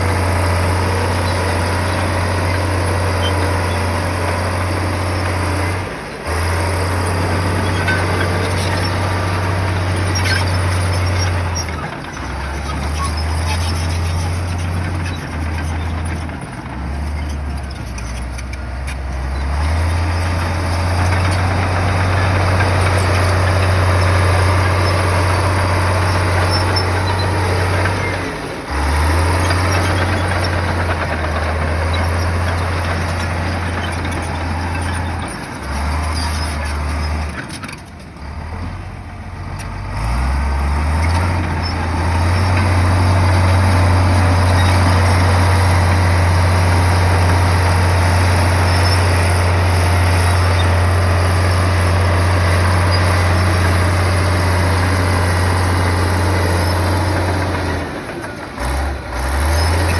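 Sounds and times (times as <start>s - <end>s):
heavy diesel engine revving: 0.0s - 37.5s, 38.2s - 59.9s.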